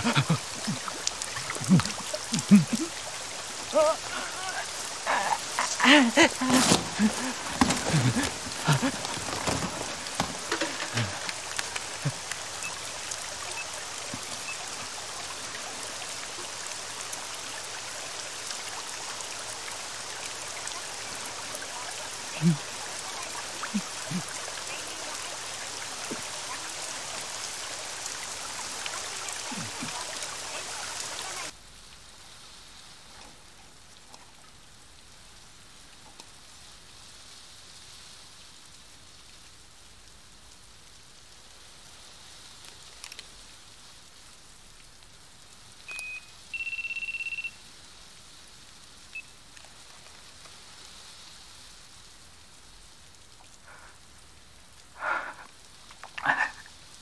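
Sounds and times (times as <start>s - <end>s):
heavy rain hissing: 0.0s - 34.0s, 34.6s - 46.6s, 47.5s - 57.0s.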